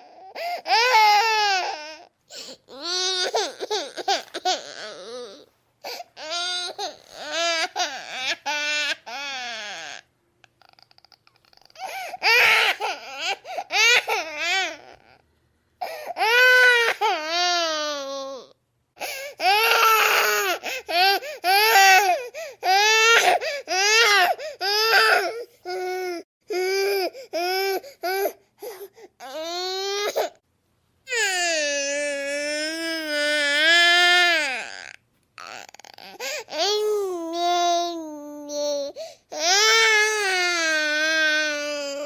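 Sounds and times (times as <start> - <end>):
baby crying: 0.0 - 15.2, 15.8 - 30.4, 31.1 - 42.0.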